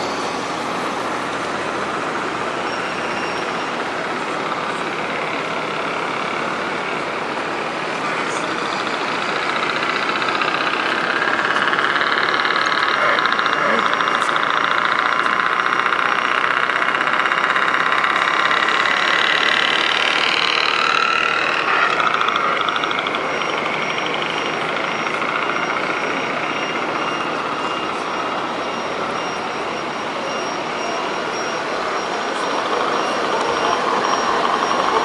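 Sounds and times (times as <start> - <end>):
faint high-pitched pulsing beep: 0.0 - 6.6, 12.9 - 35.0
model truck diesel engine sound: 0.0 - 35.0.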